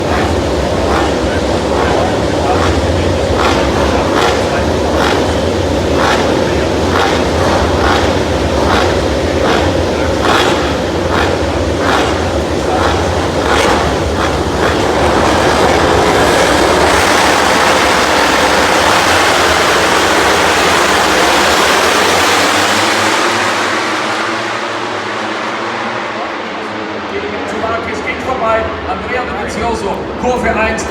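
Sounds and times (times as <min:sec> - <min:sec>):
racing motorcycle engines revving: 0:00.0 - 0:30.9.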